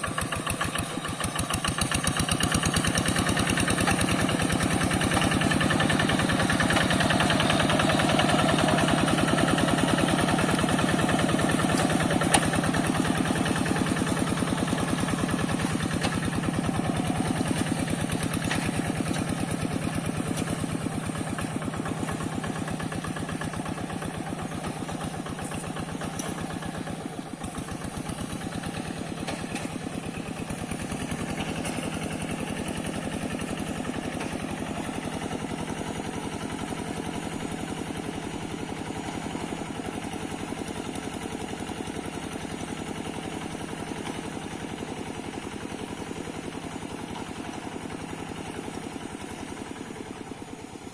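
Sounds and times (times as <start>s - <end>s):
diesel hand tractor engine chugging: 0.0s - 50.9s.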